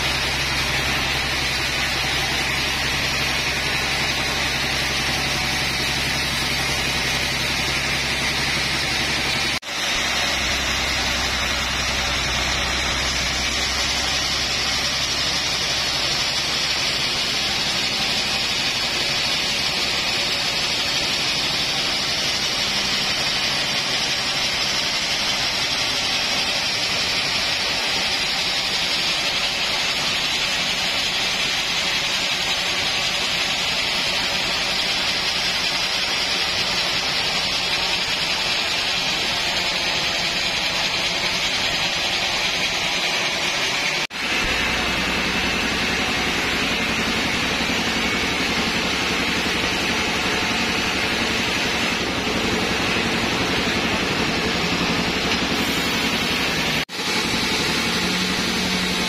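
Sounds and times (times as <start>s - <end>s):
band sawmill cutting log: 0.0s - 59.0s
deep machinery hum: 0.0s - 59.0s.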